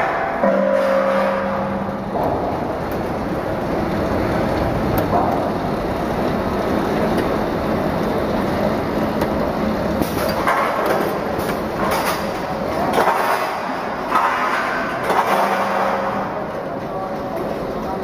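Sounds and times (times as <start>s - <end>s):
bagging machine running: 0.0s - 18.0s.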